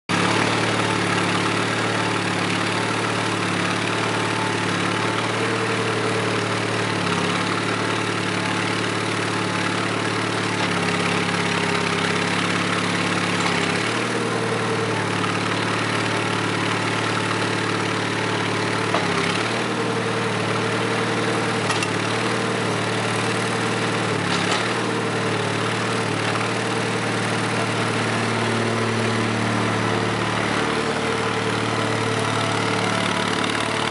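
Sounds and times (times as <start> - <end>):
loader engine idling: 0.2 - 33.9.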